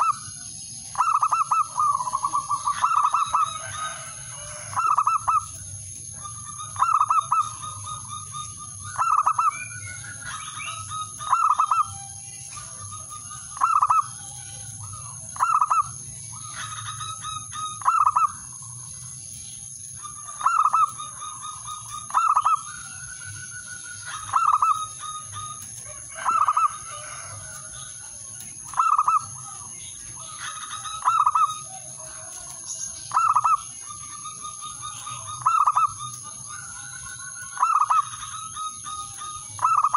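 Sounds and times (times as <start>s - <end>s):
dove cooing: 0.0s - 19.2s, 19.9s - 39.9s
faint chirps: 0.0s - 39.9s.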